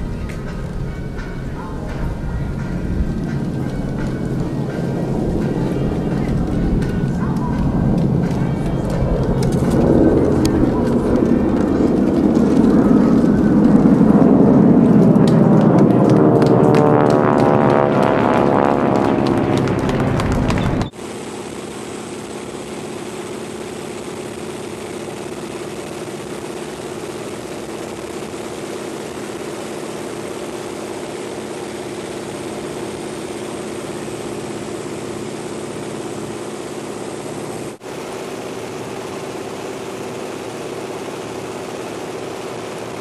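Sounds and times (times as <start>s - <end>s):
radial aircraft engine running: 0.0s - 43.0s.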